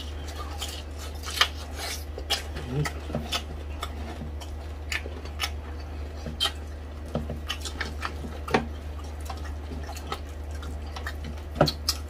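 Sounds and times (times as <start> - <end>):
chewing and crunching food: 0.0 - 12.0
low steady hum: 0.0 - 12.0.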